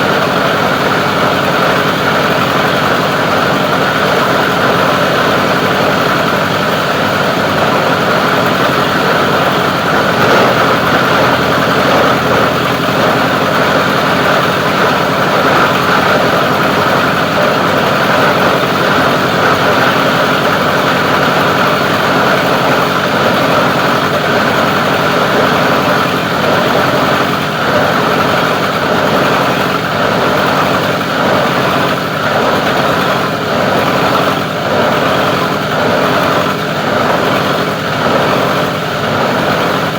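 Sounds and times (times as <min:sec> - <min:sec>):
plastic grinder running: 0:00.0 - 0:39.9.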